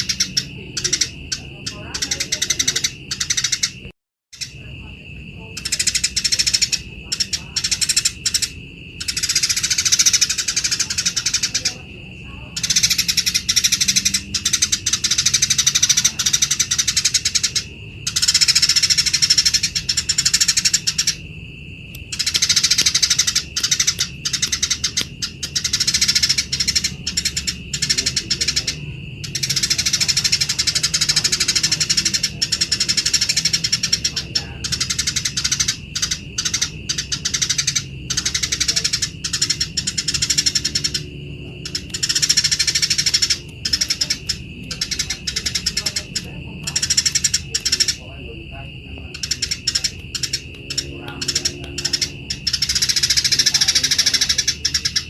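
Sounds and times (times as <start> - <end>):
sparrows chattering harshly: 0.0 - 55.0.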